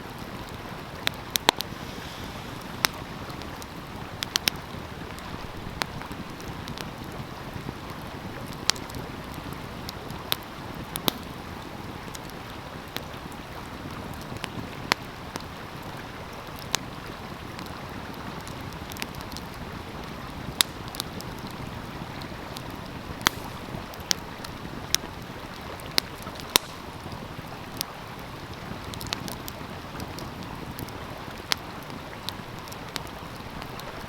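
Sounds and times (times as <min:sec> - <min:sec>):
stream flowing: 0:00.0 - 0:34.0
wood fire crackling and popping: 0:00.0 - 0:34.0.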